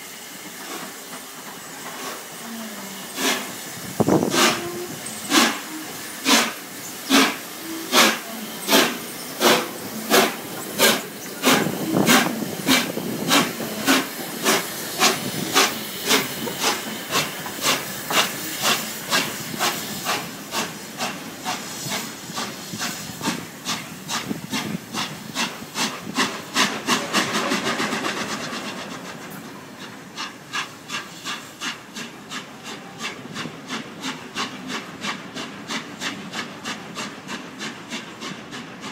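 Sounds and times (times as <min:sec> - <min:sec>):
steam hissing: 0:00.0 - 0:38.9
steam locomotive chuffing: 0:00.0 - 0:38.9.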